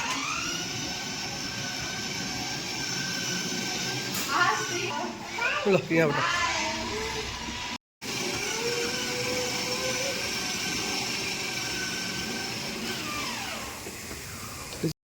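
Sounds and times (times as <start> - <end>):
motor humming and whining: 0.0 - 14.9.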